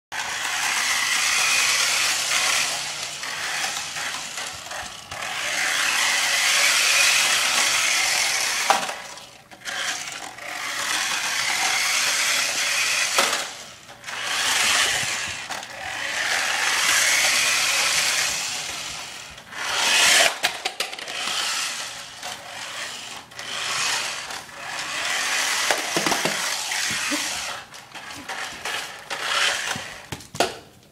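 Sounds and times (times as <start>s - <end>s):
toy car motor whirring: 0.2s - 30.1s.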